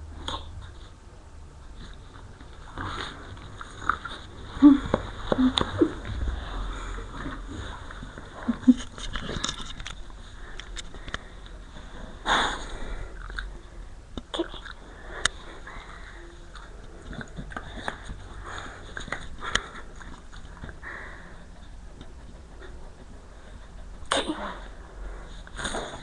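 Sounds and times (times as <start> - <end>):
dog sniffing and snuffling: 1.6 - 13.2, 15.0 - 26.0.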